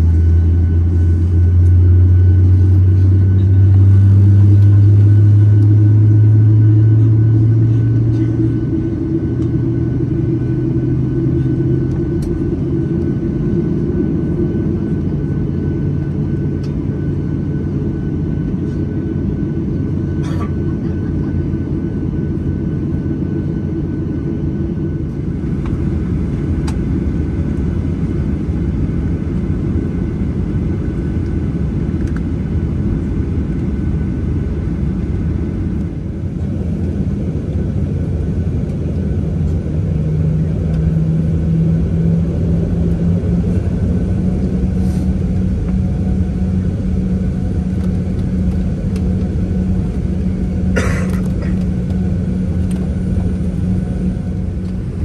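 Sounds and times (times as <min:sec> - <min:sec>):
airplane cabin hum: 0:00.0 - 0:55.0.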